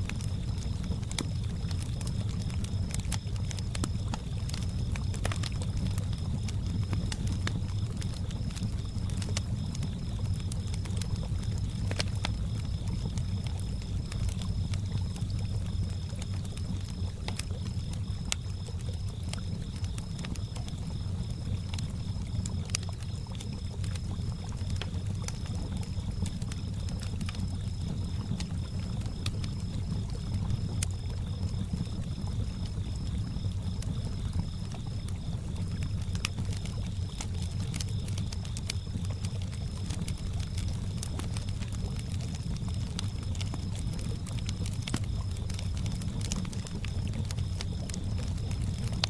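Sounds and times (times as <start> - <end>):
campfire crackling and popping: 0.0 - 49.0
crickets chirping: 0.0 - 49.0
low rumble of lake water: 0.0 - 49.0.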